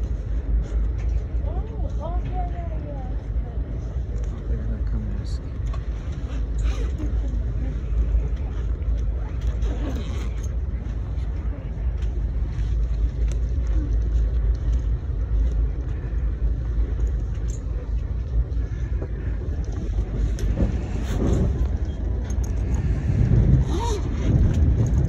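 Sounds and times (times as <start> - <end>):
train rumbling from inside: 0.0 - 25.0.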